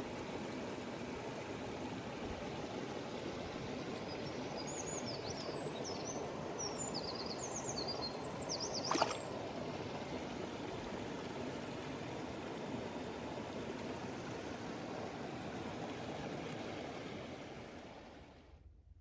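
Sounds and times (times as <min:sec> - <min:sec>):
stream flowing over rocks: 0:00.0 - 0:06.7, 0:07.5 - 0:18.2.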